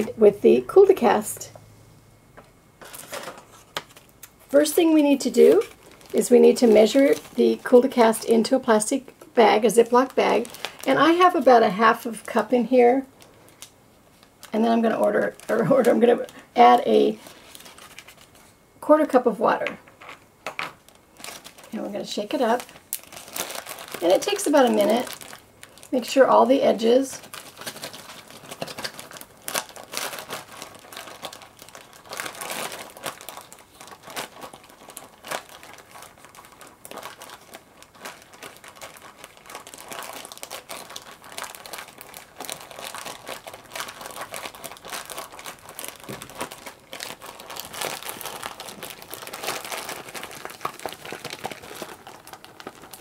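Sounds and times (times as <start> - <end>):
plastic bag crinkling: 2.8 - 18.6, 19.8 - 53.0.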